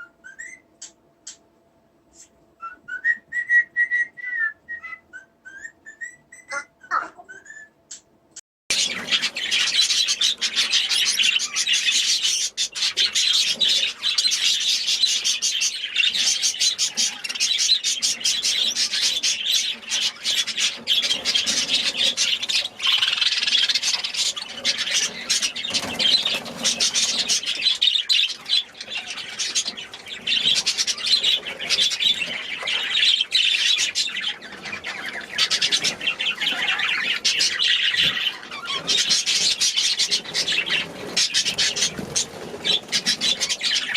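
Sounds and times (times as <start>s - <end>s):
cage birds chirping and squawking: 0.0s - 1.5s, 2.1s - 43.9s.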